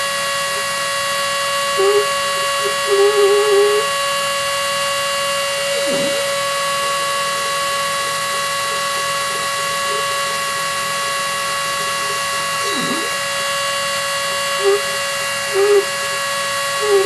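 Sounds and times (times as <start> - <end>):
machine whine over hiss: 0.0 - 17.0.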